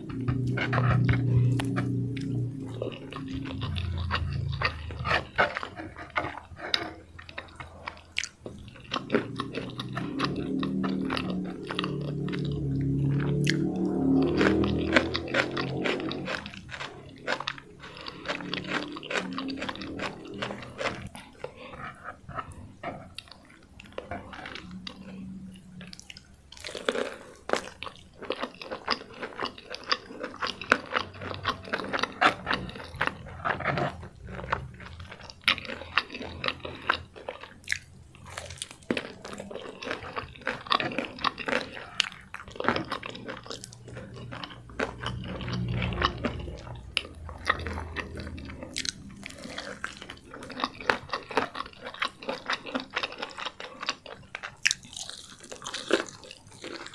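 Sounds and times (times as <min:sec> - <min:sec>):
chewing crispy fried chicken: 0:00.0 - 0:56.9.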